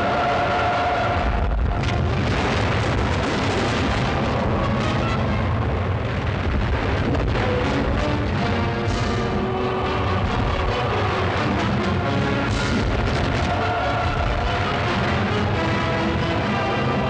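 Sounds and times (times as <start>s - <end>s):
cannon fire and explosions: 0.0s - 17.0s.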